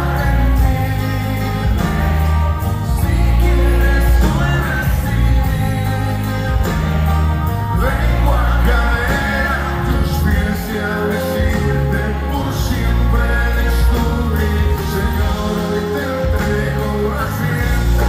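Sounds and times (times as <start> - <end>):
acoustic guitar: 0.0 - 18.0
drums: 0.0 - 18.0
electric bass: 0.0 - 18.0
keyboard: 0.0 - 18.0
person singing: 0.0 - 18.0.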